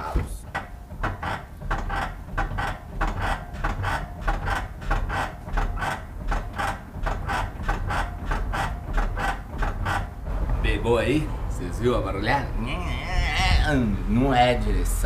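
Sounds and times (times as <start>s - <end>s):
suspension clicking and creaking: 0.0s - 13.9s.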